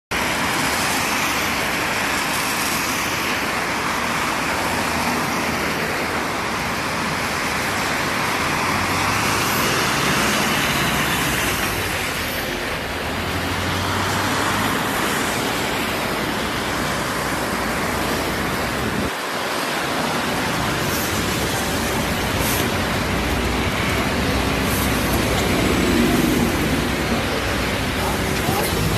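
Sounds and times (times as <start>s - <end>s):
bus engine humming: 0.2s - 28.9s
tyres hissing on wet road: 0.2s - 28.9s.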